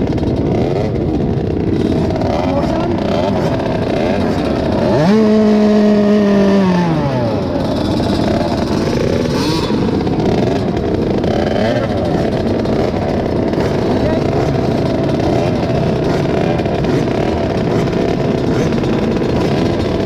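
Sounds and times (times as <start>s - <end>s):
motocross bikes running: 0.0s - 20.0s
motorbike revving hard: 0.0s - 20.0s.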